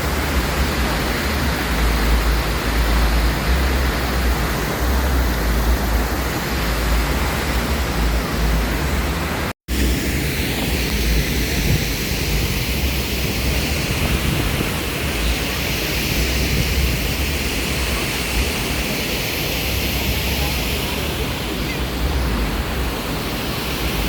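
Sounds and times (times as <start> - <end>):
rushing water with low rumble: 0.0 - 24.0.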